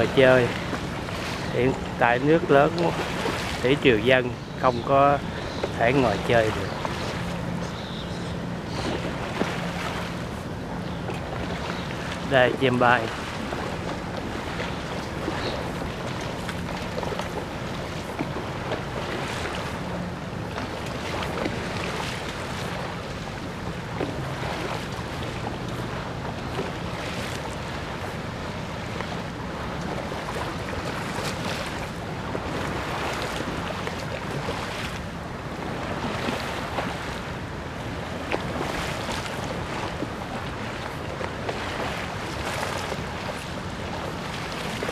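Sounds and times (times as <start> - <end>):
river water lapping: 0.0 - 44.9.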